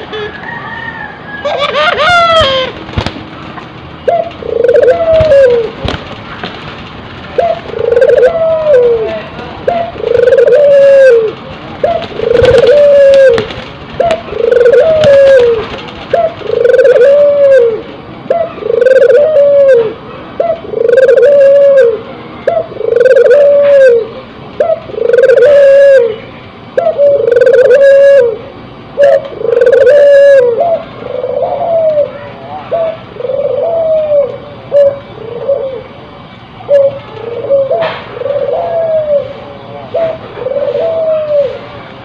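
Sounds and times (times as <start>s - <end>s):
dove cooing: 4.0s - 6.0s, 7.2s - 41.7s.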